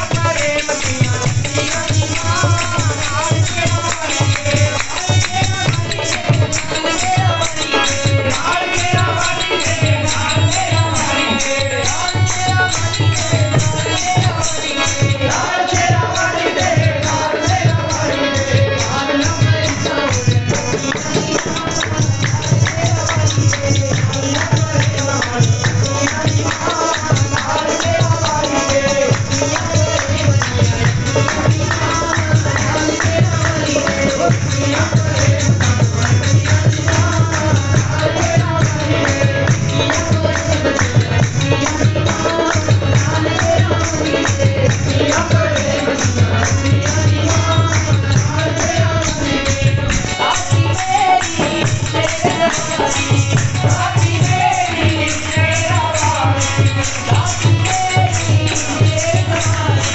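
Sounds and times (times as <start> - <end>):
devotional music: 0.0 - 59.9
jingling percussion: 0.0 - 59.9.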